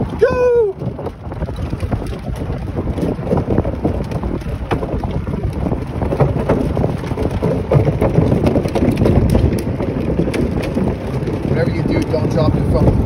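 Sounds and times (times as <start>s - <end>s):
tyres rumbling on wooden planks: 0.0s - 13.0s
wind buffeting microphone: 0.0s - 13.0s.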